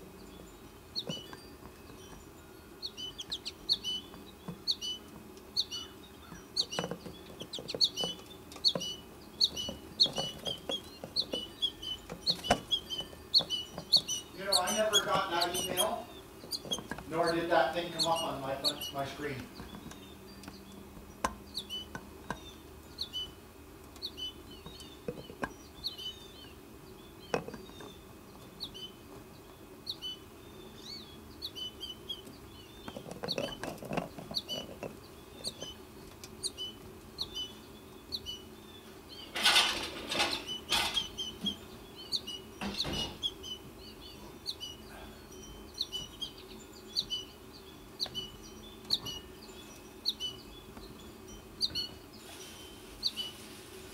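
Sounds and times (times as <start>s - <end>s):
bird fledgling chirping: 0.3s - 23.4s, 24.0s - 53.6s.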